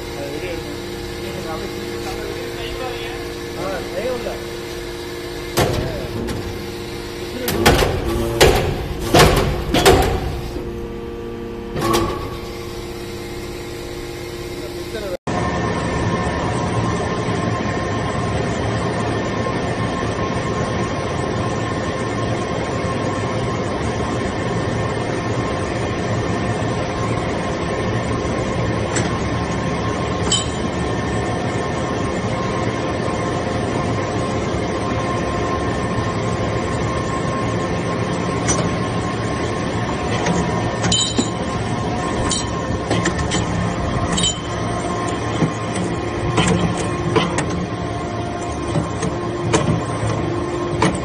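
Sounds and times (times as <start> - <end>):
hydraulic machine hum: 0.0 - 51.0.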